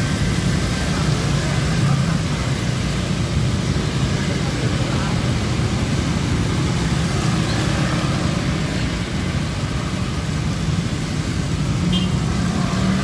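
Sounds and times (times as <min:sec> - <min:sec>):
car engines rumbling: 0:00.0 - 0:13.0
tyres hissing on wet asphalt: 0:00.0 - 0:13.0.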